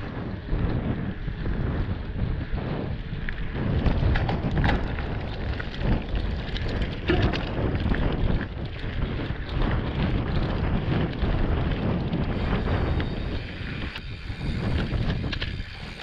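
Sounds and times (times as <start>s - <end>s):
bike knocks and rattles: 0.0s - 16.0s
wind buffeting microphone: 0.0s - 16.0s.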